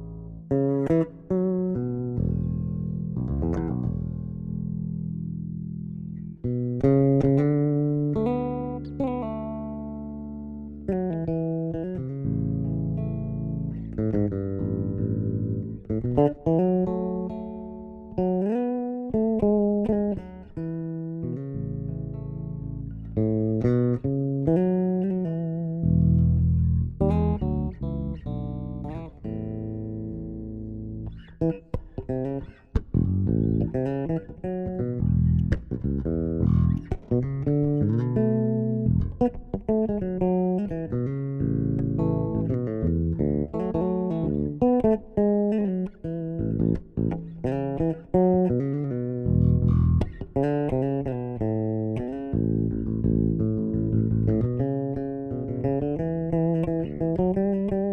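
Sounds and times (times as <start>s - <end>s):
bass guitar playing: 0.0s - 57.9s.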